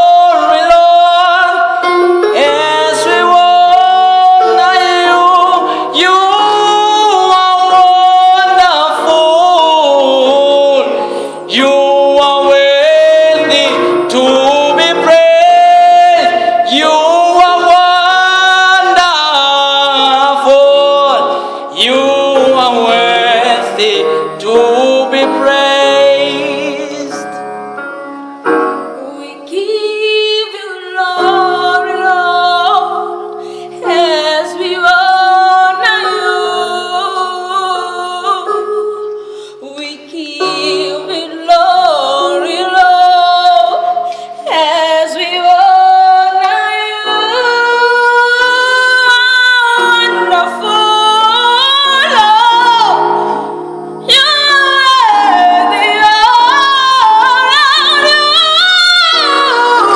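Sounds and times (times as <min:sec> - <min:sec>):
woman leading singing: 0:00.0 - 0:27.4, 0:29.0 - 0:53.4, 0:54.0 - 0:59.9.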